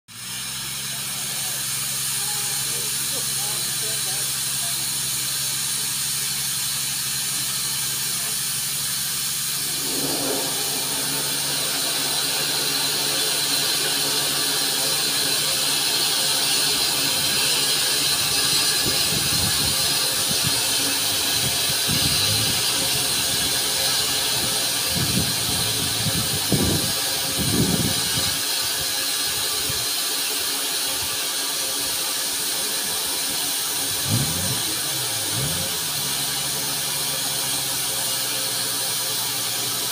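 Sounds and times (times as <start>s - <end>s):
steam locomotive hissing: 0.1s - 39.9s.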